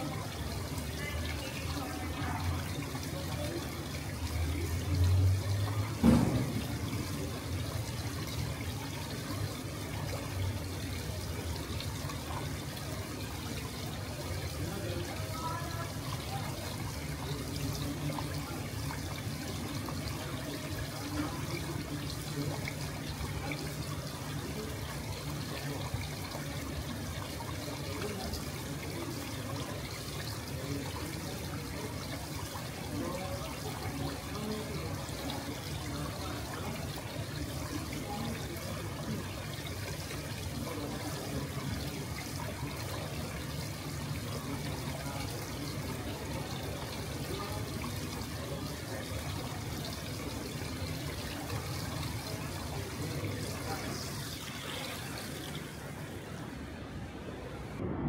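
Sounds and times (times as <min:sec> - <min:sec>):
water running and splashing: 0:00.0 - 0:57.8
faint voices: 0:00.0 - 0:58.0.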